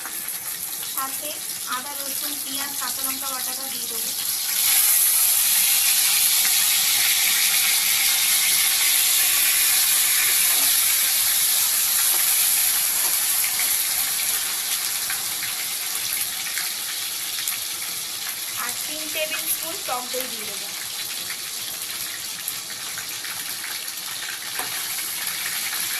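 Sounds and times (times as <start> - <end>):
meat sizzling in hot oil: 0.0 - 25.9.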